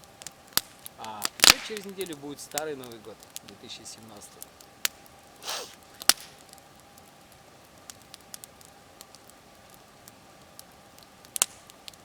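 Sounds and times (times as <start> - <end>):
campfire crackling: 0.0 - 12.0
loud fire snaps: 0.0 - 12.0.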